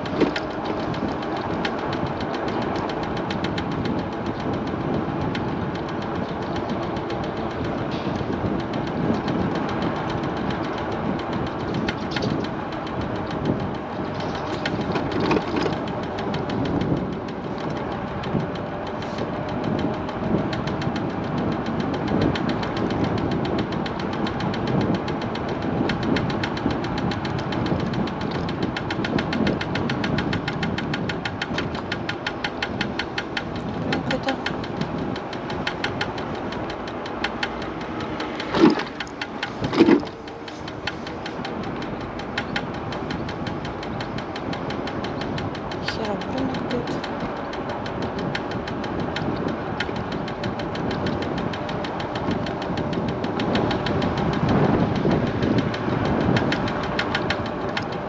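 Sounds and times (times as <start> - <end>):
electric scooter riding: 0.0 - 58.0
rapid knocking from front wheel: 0.0 - 58.0.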